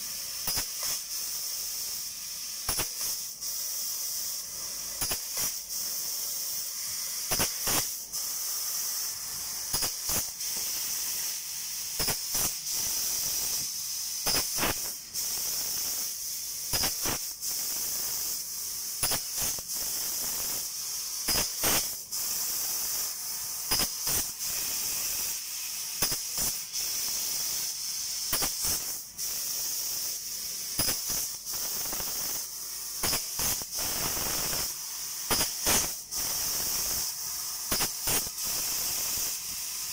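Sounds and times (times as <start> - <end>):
laser cutter high hiss: 0.0 - 39.9.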